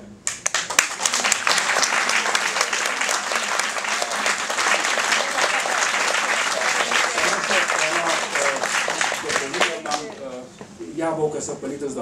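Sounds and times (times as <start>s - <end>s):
audience applauding: 0.3s - 10.4s.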